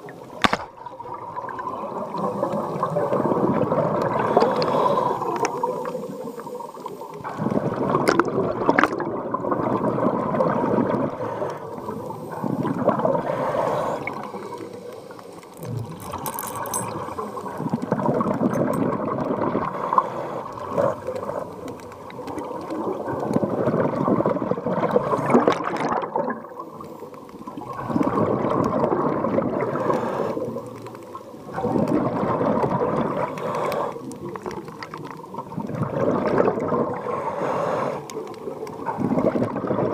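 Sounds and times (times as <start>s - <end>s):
underwater regulator bubbles gurgling: 0.0s - 39.9s.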